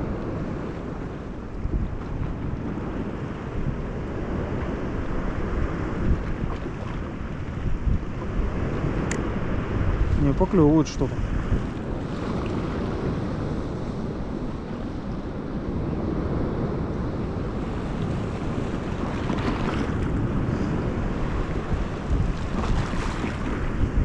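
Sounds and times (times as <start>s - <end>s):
sea surf washing in: 0.0s - 24.0s
wind buffeting microphone: 0.0s - 24.0s.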